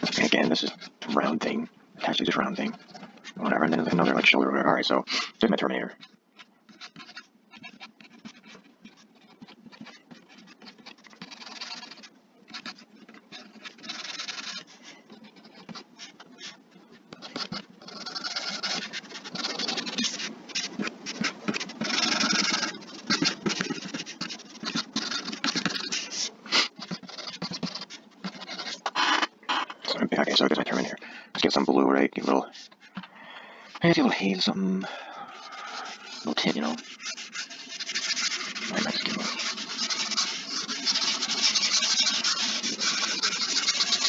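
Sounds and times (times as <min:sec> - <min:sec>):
stylus scratching on graphics tablet: 0:00.0 - 0:32.9, 0:35.3 - 0:44.0.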